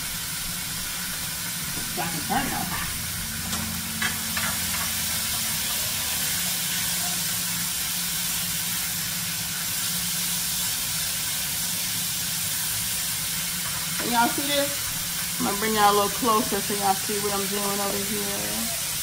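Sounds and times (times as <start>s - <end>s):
bacon sizzling in a skillet: 0.0s - 19.0s.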